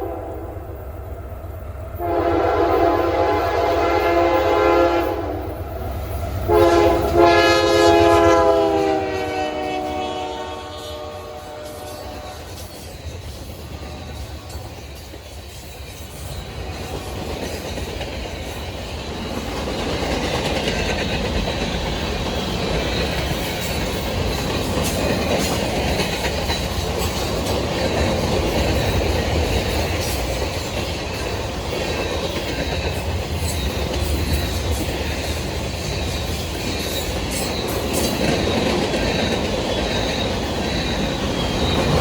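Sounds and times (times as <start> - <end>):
freight train wheels clacking: 0.9 - 42.0.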